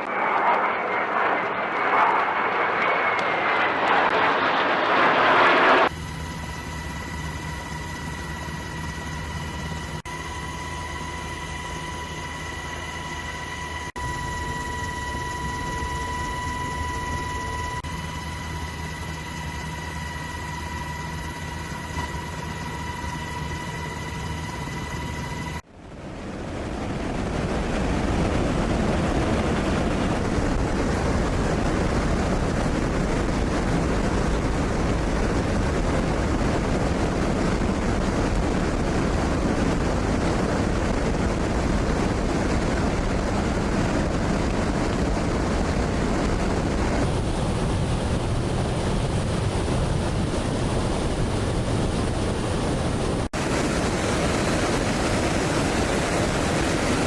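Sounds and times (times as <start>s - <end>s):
jet aircraft roar: 0.0s - 57.0s
rushing wind: 0.0s - 57.0s.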